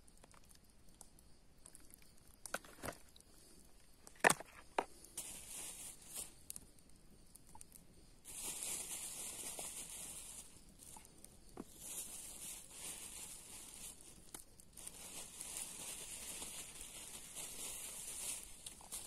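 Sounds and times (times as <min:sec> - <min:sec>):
rustling hiss: 0:00.0 - 0:19.0.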